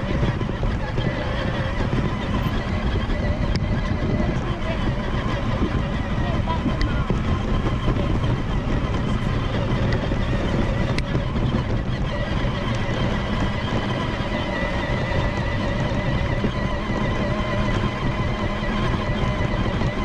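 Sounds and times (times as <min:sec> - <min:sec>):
electric motor whine: 0:00.0 - 0:20.0
wheels rumbling on ground: 0:00.0 - 0:20.0.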